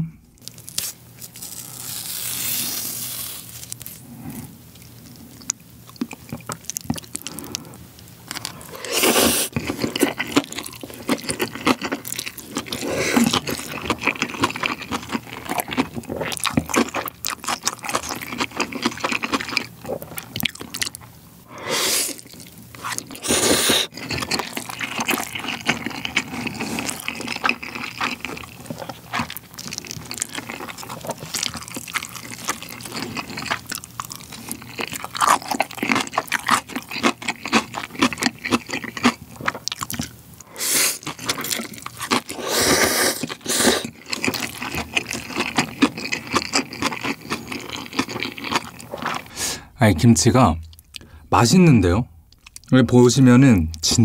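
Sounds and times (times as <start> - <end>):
slurping and chewing noodles: 1.4 - 49.8.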